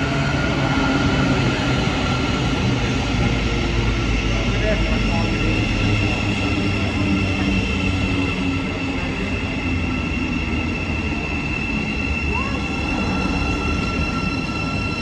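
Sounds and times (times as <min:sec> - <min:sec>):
train high-pitched whine: 0:00.0 - 0:15.0
train low rumble: 0:00.0 - 0:15.0.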